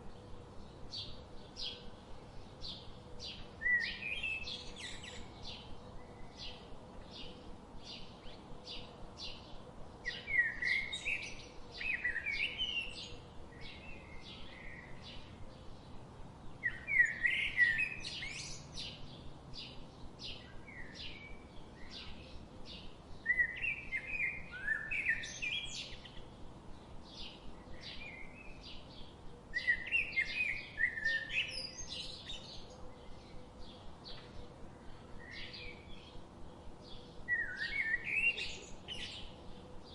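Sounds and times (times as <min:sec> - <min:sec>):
bird warbling song: 0:00.0 - 0:39.9
faint background hiss: 0:00.0 - 0:39.9.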